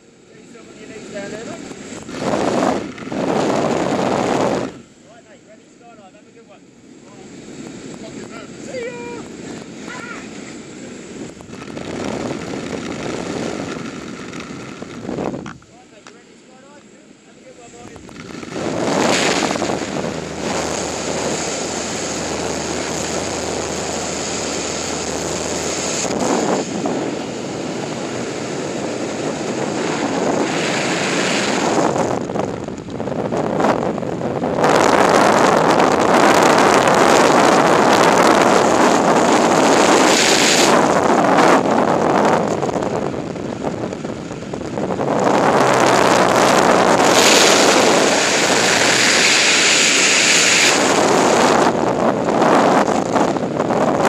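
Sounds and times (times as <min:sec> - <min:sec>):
wind roaring over microphone: 0:00.0 - 0:54.0.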